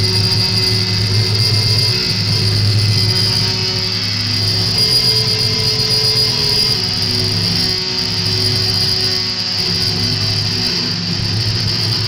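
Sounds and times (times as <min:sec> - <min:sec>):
electronic noise music drone: 0:00.0 - 0:12.0.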